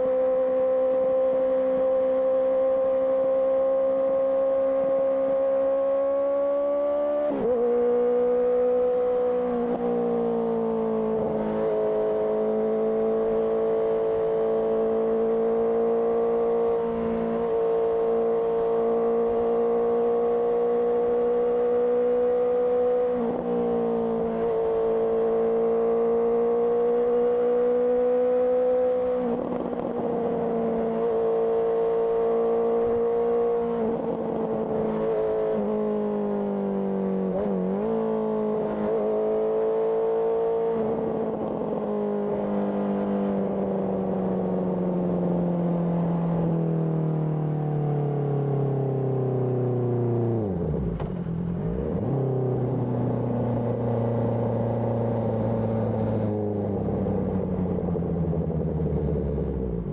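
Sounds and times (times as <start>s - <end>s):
motorcycle engine riding: 0.0s - 36.4s, 48.2s - 59.9s.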